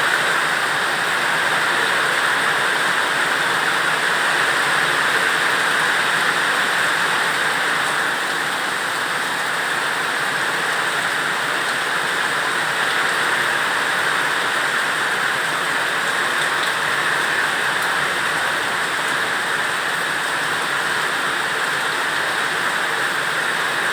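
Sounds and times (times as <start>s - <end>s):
steady rain: 0.0s - 23.9s.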